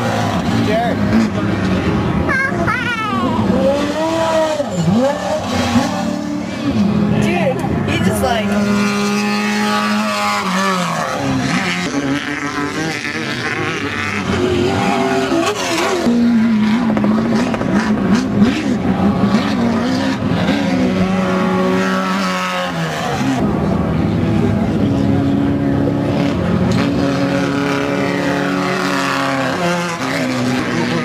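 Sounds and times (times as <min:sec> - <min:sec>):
race vehicle engines running: 0:00.0 - 0:31.0.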